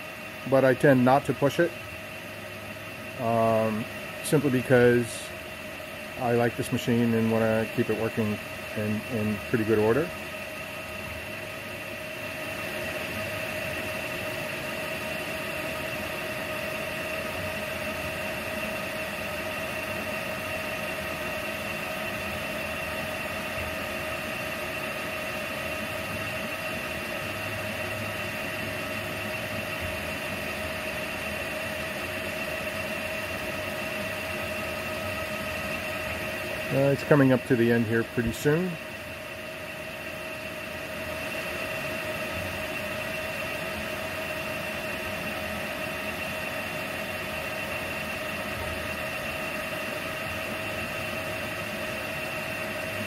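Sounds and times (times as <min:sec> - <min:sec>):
mill spindle whine: 0:00.0 - 0:53.0.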